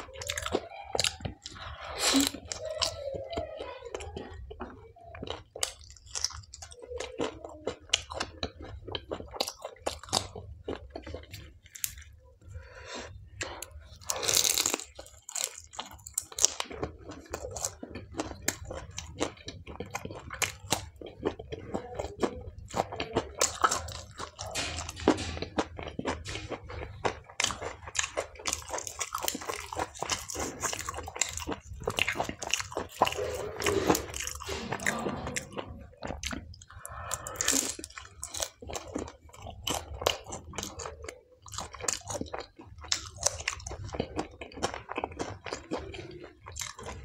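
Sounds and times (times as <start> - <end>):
person chewing and crunching food: 0.0 - 47.0.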